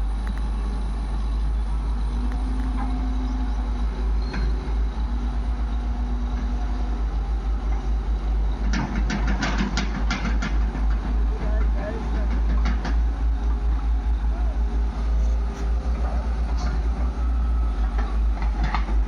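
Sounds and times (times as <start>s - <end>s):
diesel engine throbbing: 0.0s - 19.0s
steady whine: 0.0s - 19.0s.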